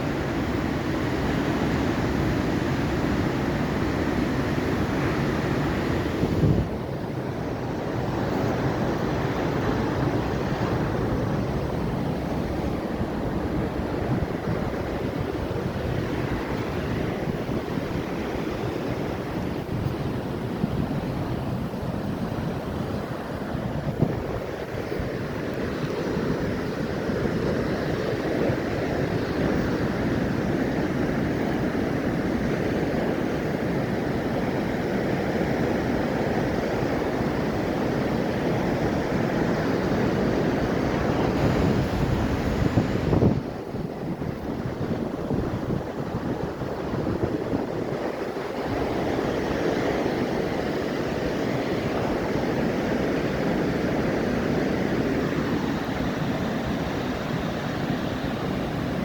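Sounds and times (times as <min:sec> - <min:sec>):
surf waves washing in: 0:00.0 - 0:59.0.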